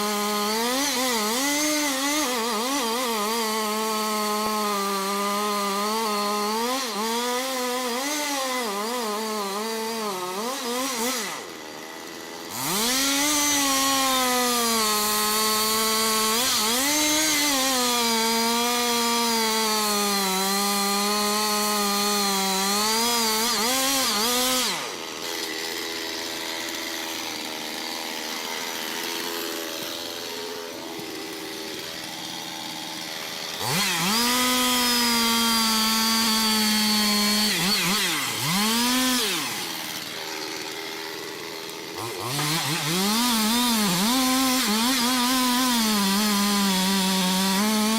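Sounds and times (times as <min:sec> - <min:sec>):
chainsaw cutting into tree: 0:00.0 - 0:47.9.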